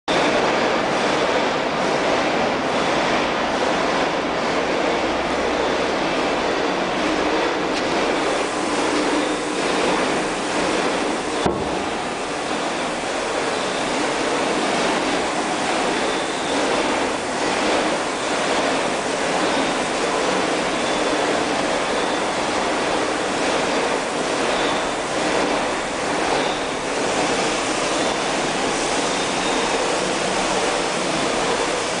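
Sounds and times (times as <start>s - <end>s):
workshop machinery noise: 0.1s - 32.0s.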